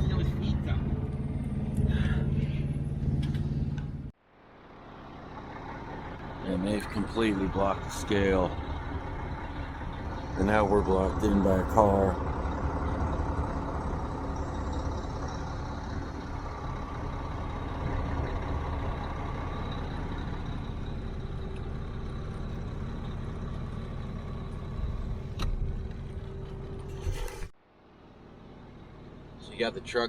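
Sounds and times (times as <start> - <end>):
truck engines idling: 0.0 - 30.0.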